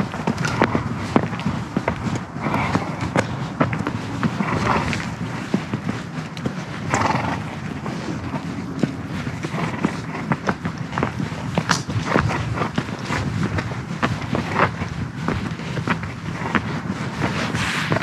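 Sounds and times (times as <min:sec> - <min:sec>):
hoofbeats crunching in snow: 0:00.0 - 0:18.0.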